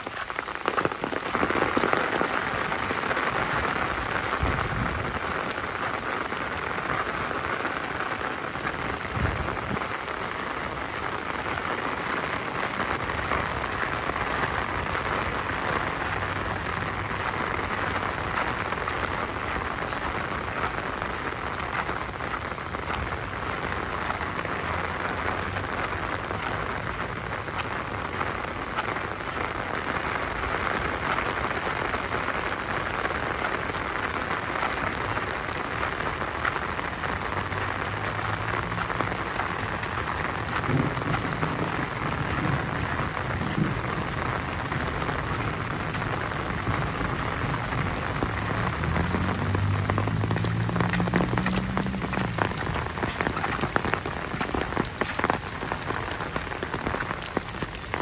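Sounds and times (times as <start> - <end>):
rain pattering on hard surfaces: 0.0 - 58.0.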